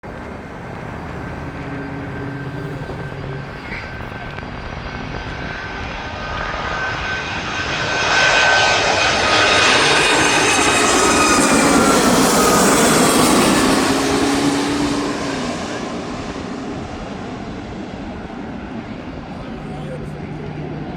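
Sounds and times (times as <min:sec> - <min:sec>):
jet airliner passing overhead: 0:00.0 - 0:20.9.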